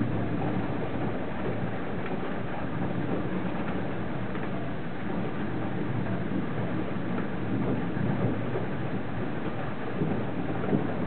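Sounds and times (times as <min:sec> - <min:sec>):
rain: 0:00.0 - 0:11.0
wind: 0:00.0 - 0:11.0
wind buffeting the microphone: 0:00.0 - 0:11.0.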